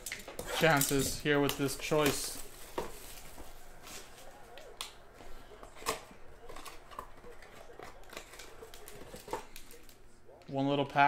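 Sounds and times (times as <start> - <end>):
plastic wrap crinkling: 0.0 - 10.0.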